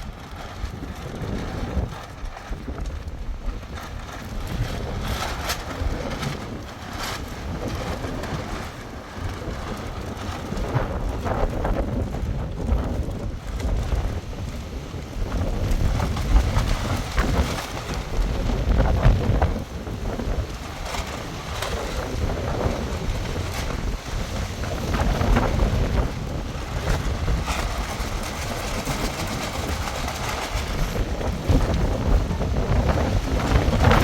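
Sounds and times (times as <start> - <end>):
strong gusting wind: 0.0 - 34.0.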